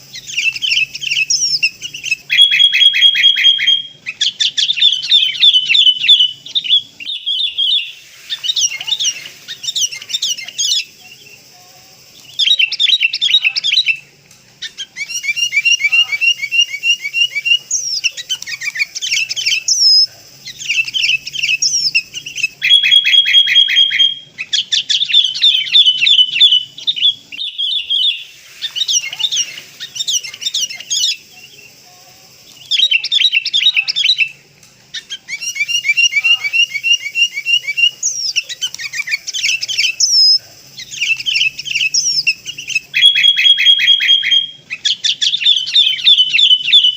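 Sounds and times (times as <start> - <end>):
bird chirping and whistling: 0.0 - 11.2, 12.2 - 14.0, 14.6 - 31.6, 32.6 - 34.4, 35.0 - 46.9.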